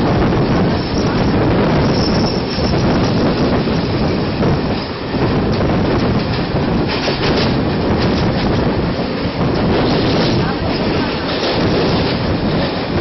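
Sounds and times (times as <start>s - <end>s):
electric train running noise: 0.0s - 13.0s
train coaches rumbling past: 0.0s - 13.0s
wheels clattering over rail joints: 0.7s - 13.0s.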